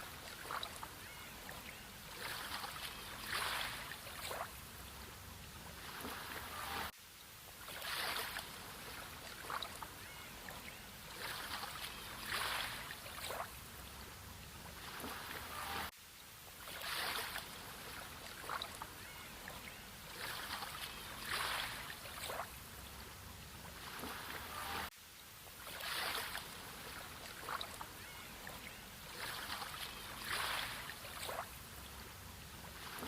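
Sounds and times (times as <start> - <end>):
sea water lapping: 0.0 - 6.9, 7.6 - 15.9, 16.6 - 24.9, 25.6 - 33.0.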